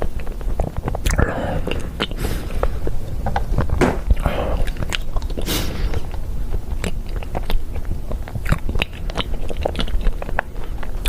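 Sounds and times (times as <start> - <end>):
chewing crunchy peanuts: 0.0 - 11.0.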